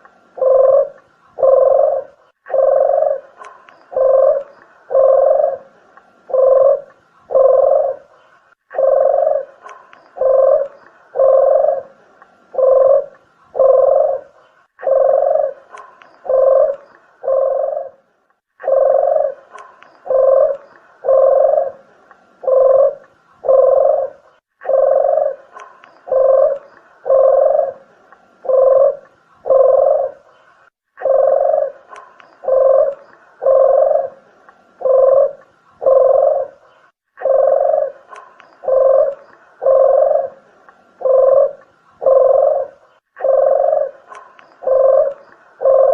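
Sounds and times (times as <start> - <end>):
dove cooing: 0.0 - 30.4, 31.0 - 45.9.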